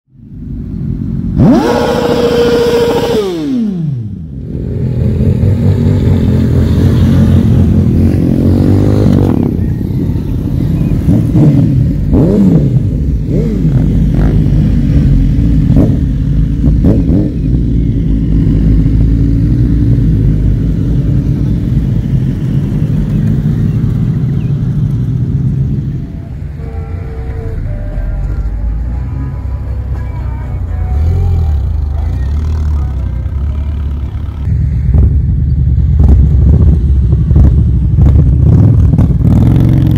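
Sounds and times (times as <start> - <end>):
motorcycle engines droning: 0.1 - 39.9
motorcycle engine revving: 0.8 - 39.9.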